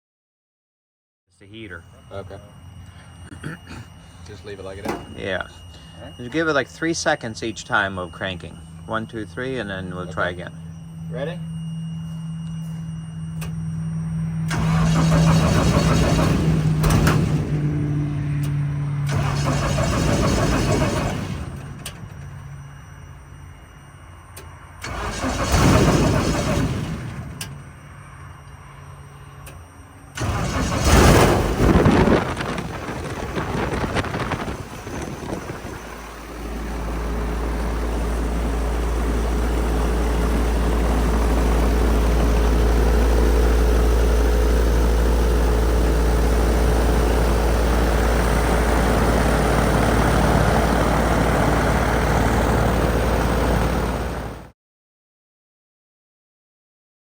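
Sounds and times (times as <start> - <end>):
aircraft engine starting: 1.5 - 23.4, 24.3 - 54.5.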